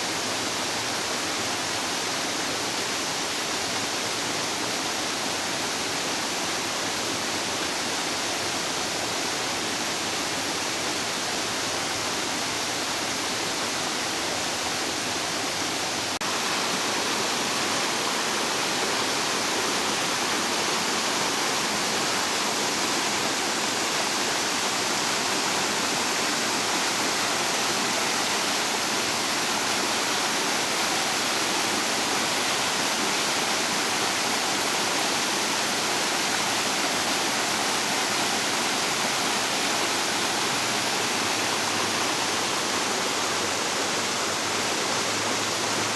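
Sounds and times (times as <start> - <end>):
water rushing down waterfall: 0.0 - 45.9.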